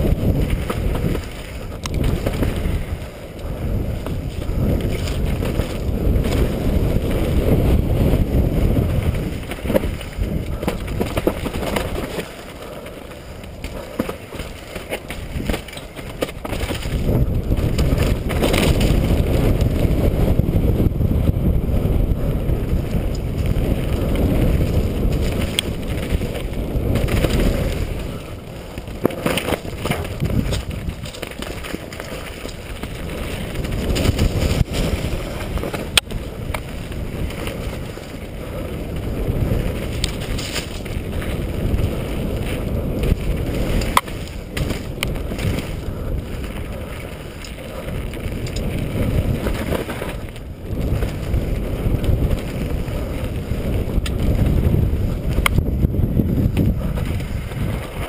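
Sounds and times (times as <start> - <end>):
bike knocking and rattling: 0.0 - 58.0
tyres rumbling on dirt trail: 0.0 - 58.0
wind rush: 0.0 - 58.0.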